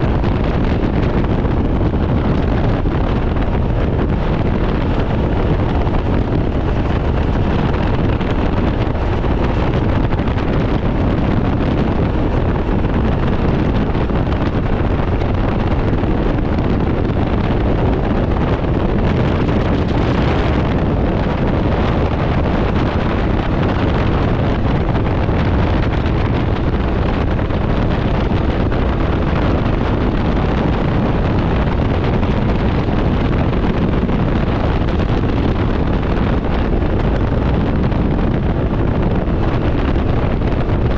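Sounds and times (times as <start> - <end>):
engine running: 0.0 - 40.9
road noise: 0.0 - 40.9
wind buffeting microphone: 0.0 - 40.9.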